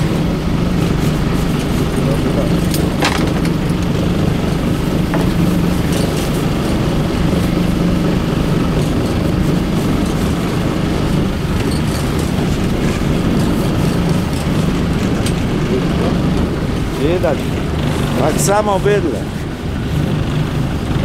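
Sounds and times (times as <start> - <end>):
boat engine humming: 0.0 - 21.0
water noise: 0.0 - 21.0
wind: 0.0 - 21.0.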